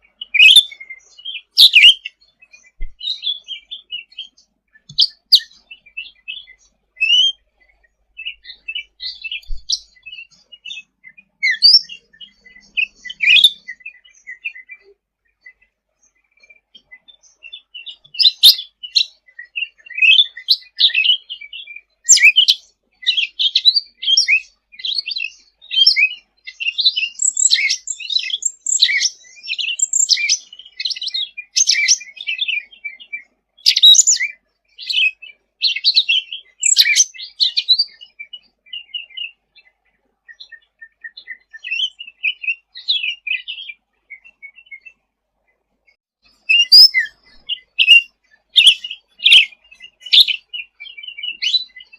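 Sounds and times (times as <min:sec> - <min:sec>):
songbird chirping and twittering: 0:00.0 - 0:51.9.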